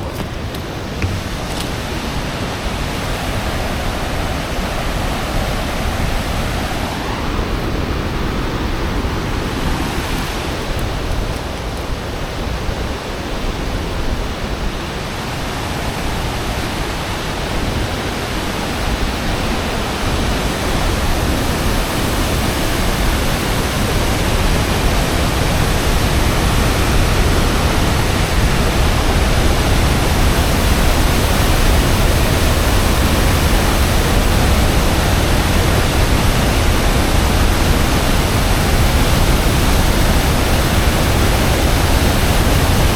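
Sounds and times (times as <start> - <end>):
waterfall roar: 0.0 - 42.9.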